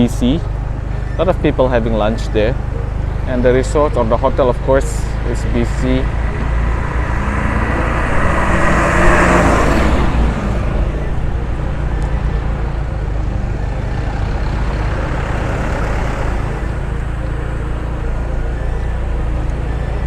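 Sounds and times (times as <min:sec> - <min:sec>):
car road and engine rumble: 0:00.0 - 0:20.0
passing traffic rushing: 0:00.0 - 0:20.0.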